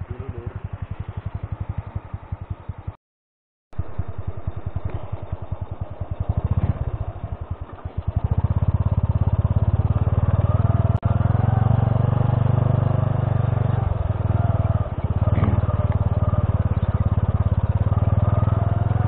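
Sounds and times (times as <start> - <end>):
motorcycle engine running: 0.0 - 3.0, 3.8 - 19.0.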